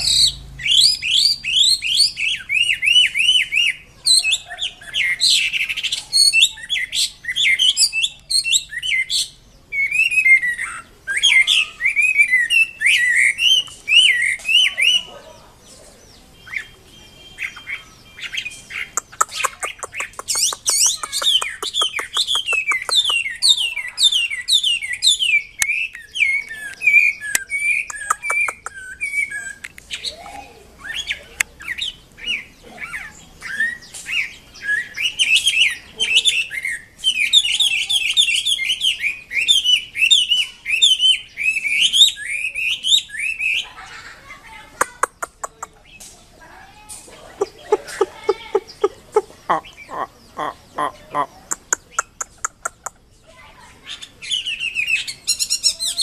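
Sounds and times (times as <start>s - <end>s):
songbird whistling song: 0.0s - 44.0s, 44.8s - 56.0s.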